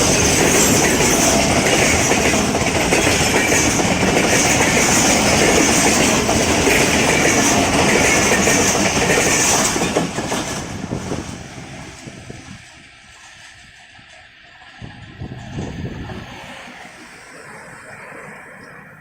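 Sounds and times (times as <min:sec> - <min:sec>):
train wheels clacking over rails: 0:00.0 - 0:19.0.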